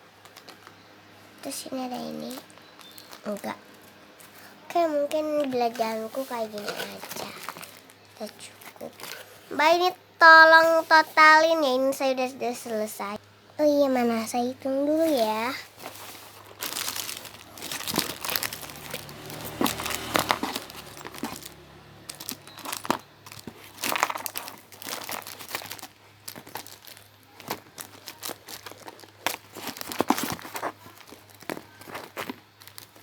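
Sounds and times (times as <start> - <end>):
paper crinkling and rustling: 0.2 - 0.8, 1.4 - 9.6, 14.8 - 33.0.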